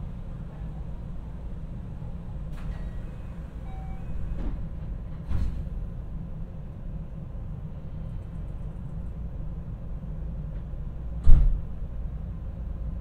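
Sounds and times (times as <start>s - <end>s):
train low hum: 0.0s - 13.0s.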